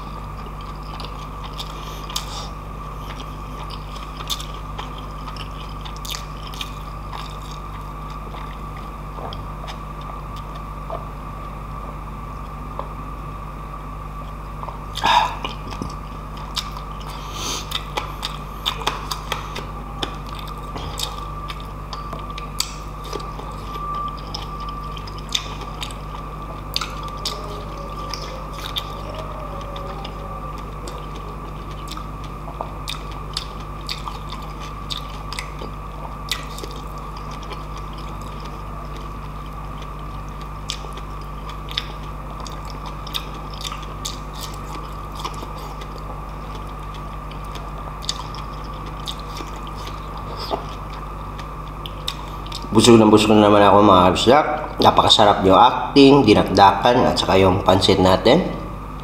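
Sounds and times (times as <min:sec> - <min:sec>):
chewing soft fruit: 0:00.0 - 0:13.2, 0:14.2 - 0:59.0
steady background hum: 0:00.0 - 0:59.0.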